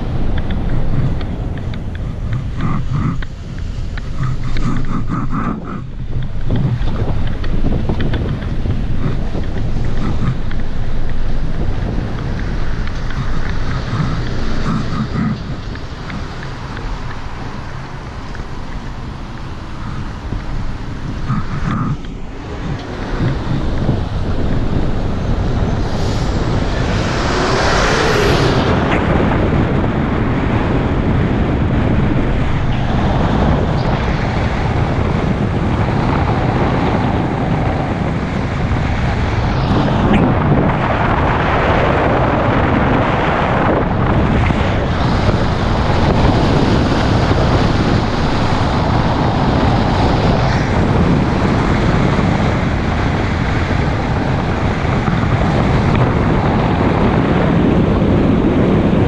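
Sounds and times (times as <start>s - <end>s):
truck passing whoosh: 0.0s - 58.4s
car road and tyre noise: 0.0s - 59.0s
wind rush on microphone: 0.0s - 59.0s.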